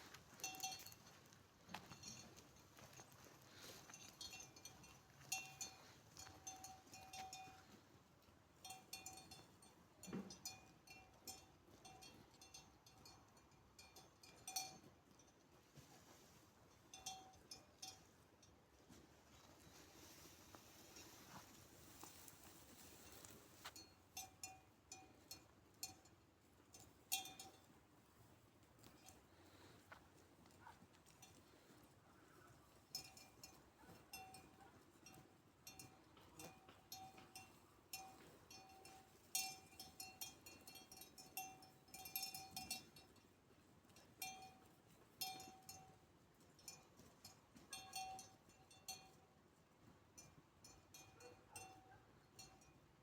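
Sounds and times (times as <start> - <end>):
sheep bell clinking: 0.0 - 53.0.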